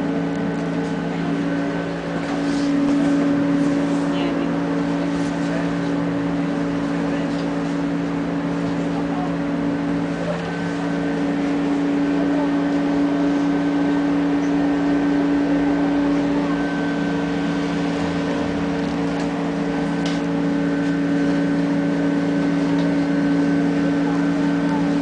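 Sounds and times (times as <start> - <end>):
tram electrical hum: 0.0 - 25.0
wheels rumbling on rails: 0.0 - 25.0.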